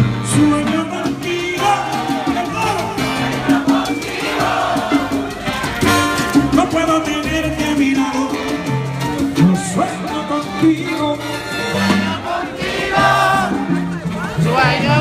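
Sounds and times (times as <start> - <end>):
bass line: 0.0 - 15.0
horns: 0.0 - 15.0
latin percussion: 0.0 - 15.0.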